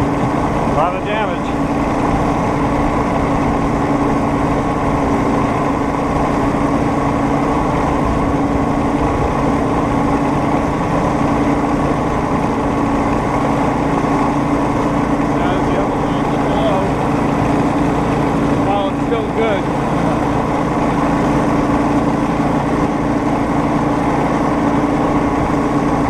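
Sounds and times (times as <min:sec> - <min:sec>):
rail speeder engine running: 0:00.0 - 0:26.0.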